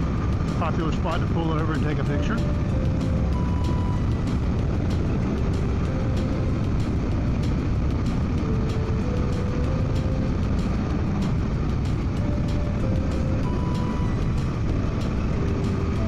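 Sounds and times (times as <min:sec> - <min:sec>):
motorcycle engine cruising: 0:00.0 - 0:16.0
road noise: 0:00.0 - 0:16.0
wind noise: 0:00.0 - 0:16.0.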